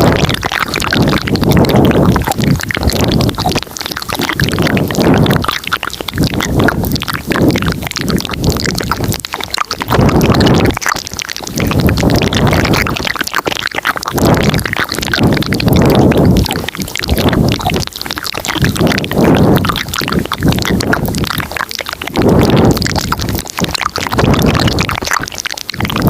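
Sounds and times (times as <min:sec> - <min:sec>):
wet mouth clicks and smacks: 0:00.0 - 0:26.0.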